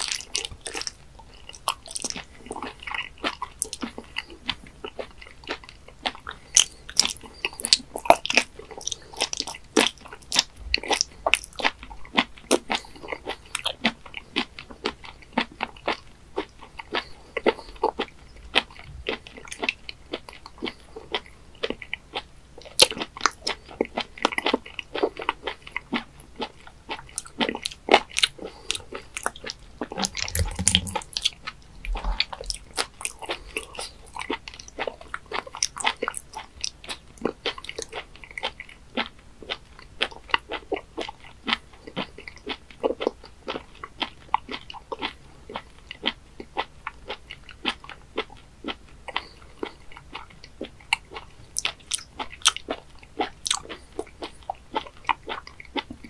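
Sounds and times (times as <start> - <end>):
wet chewing of octopus: 0.0 - 56.0.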